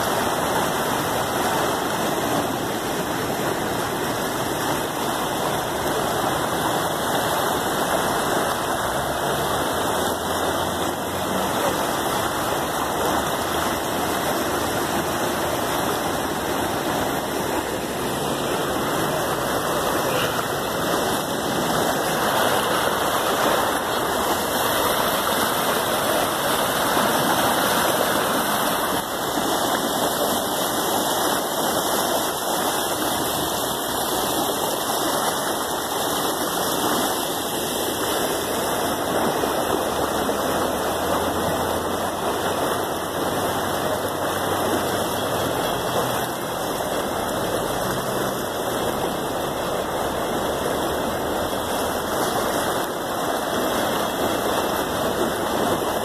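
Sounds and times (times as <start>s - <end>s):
river rushing: 0.0s - 56.0s.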